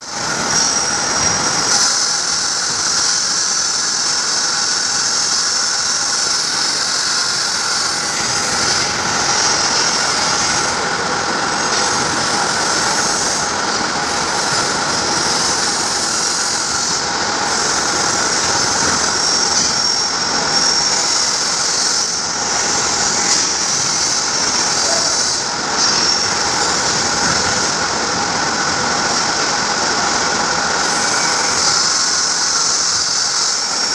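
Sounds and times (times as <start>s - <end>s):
machine whine: 0.0s - 33.9s.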